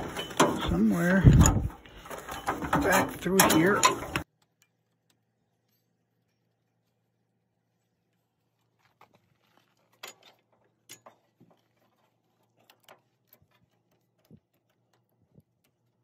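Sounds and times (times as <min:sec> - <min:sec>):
hands handling metal hose fittings: 0:00.0 - 0:07.0, 0:08.1 - 0:16.0.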